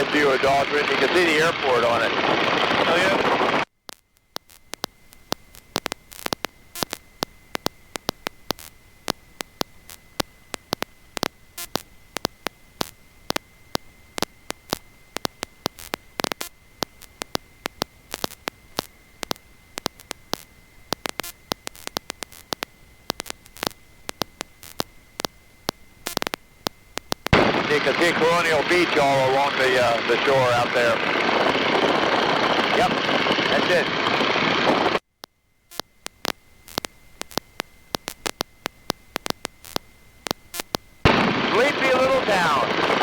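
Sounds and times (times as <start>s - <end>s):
faint high-pitched whine: 0.0s - 43.0s
low hiss: 0.0s - 43.0s
static crackling clicks: 0.0s - 43.0s.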